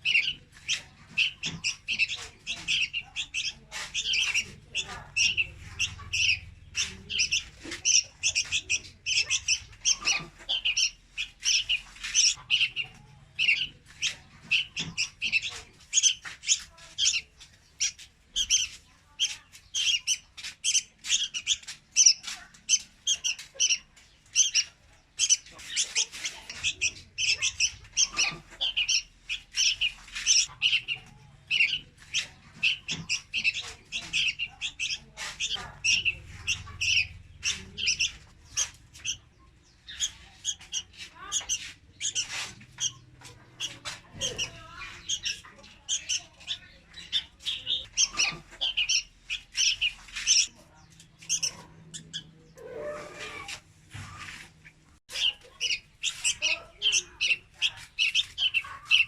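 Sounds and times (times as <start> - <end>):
bird calling in high chirps: 0.0 - 53.6, 54.2 - 59.0.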